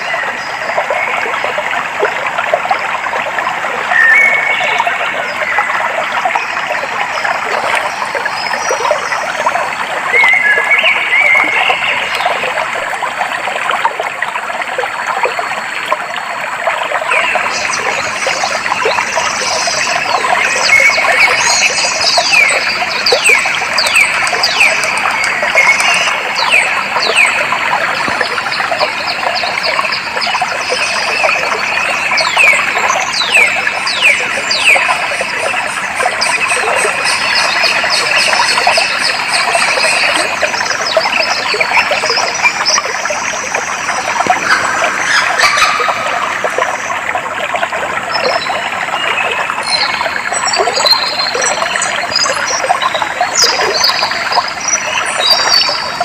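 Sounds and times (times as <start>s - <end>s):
stream trickling: 0.0s - 56.0s
birds singing: 3.9s - 12.7s, 17.1s - 47.2s, 48.0s - 56.0s.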